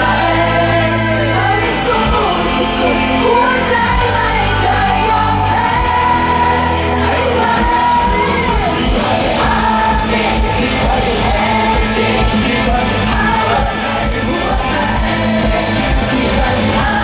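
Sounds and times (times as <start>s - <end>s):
pop backing music: 0.0s - 17.0s.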